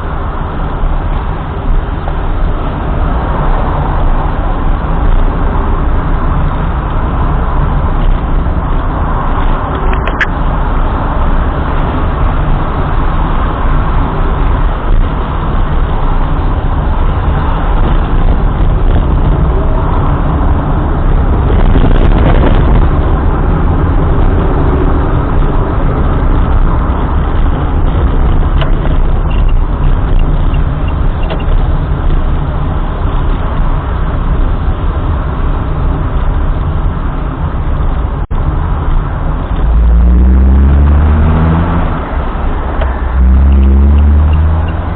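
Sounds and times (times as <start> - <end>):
car driving on road: 0.0 - 44.9.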